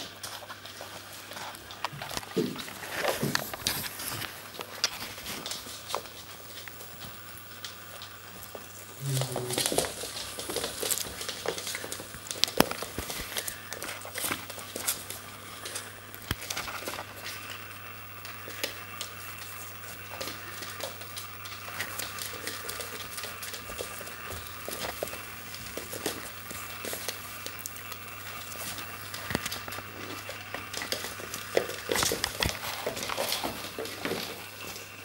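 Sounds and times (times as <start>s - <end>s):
puppy claws clicking on wooden floor: 0.0s - 8.8s, 9.4s - 34.9s.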